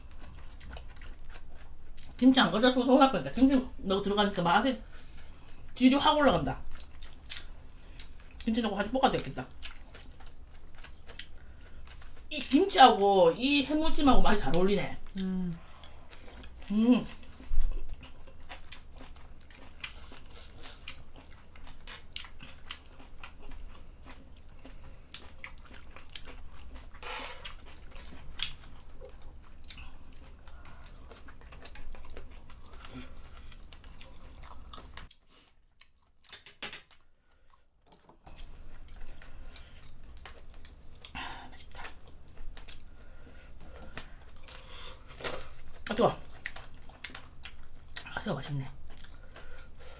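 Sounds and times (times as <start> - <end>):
chewing and biting: 0.0 - 2.2, 6.6 - 8.5, 9.5 - 12.3, 15.8 - 36.3, 36.9 - 49.9.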